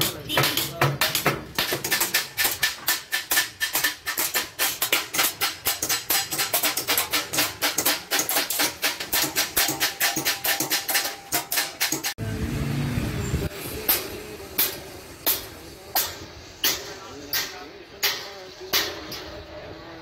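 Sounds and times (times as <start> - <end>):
small hammer tapping sheet metal: 0.0 - 12.2, 13.9 - 19.3.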